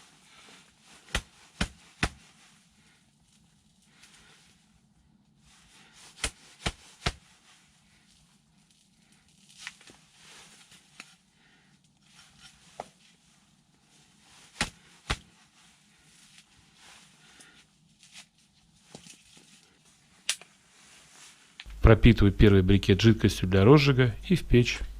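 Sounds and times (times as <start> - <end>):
rustling: 0.0 - 21.8.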